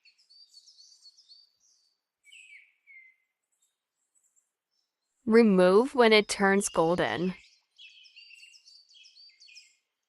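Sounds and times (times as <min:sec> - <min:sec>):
faint bird chirping: 0:00.0 - 0:05.3, 0:06.1 - 0:10.0.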